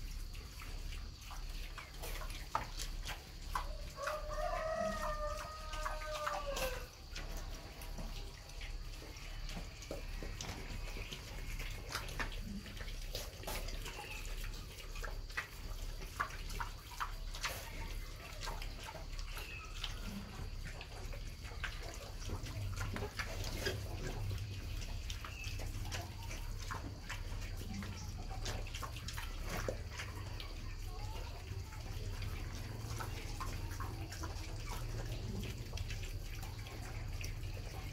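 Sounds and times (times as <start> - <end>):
pigs snuffling: 0.0 - 37.9.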